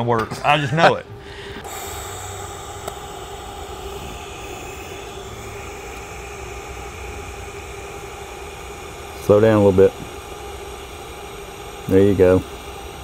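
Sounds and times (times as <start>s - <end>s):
welding arc hissing and humming: 0.5s - 13.0s.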